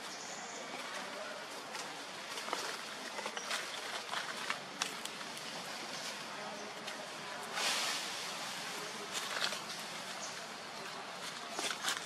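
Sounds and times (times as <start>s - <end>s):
steady outdoor hiss: 0.0s - 12.0s
dry leaves rustling and crackling: 1.9s - 12.0s.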